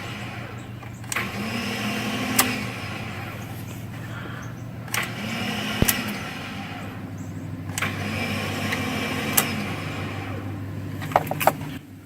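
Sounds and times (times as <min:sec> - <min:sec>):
starter sharp clicks: 0:00.0 - 0:11.8.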